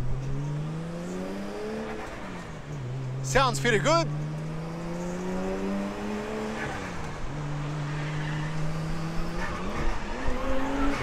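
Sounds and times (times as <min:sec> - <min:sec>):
car engine and exhaust: 0:00.0 - 0:11.0.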